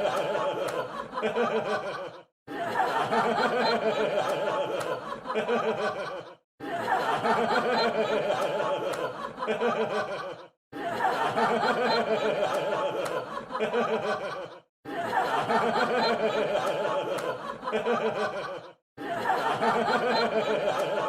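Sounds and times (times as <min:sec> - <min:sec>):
canned laugh track: 0:00.0 - 0:21.0.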